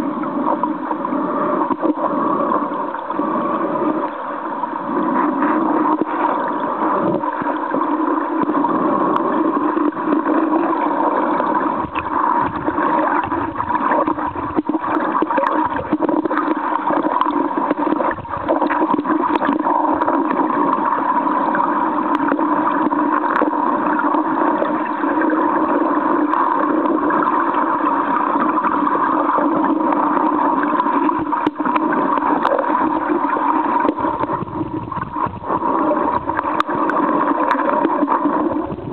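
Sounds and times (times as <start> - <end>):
underwater stream rushing: 0.0 - 38.9.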